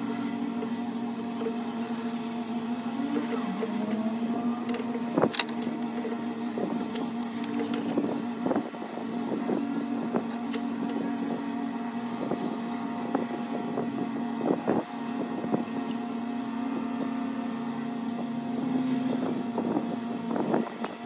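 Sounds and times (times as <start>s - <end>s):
motor hum: 0.0s - 21.0s.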